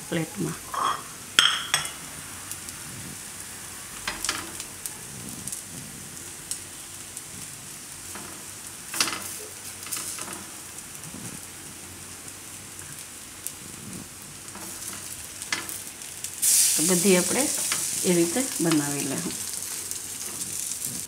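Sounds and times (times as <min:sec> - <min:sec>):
oil sizzling in a pan: 0:00.0 - 0:21.0.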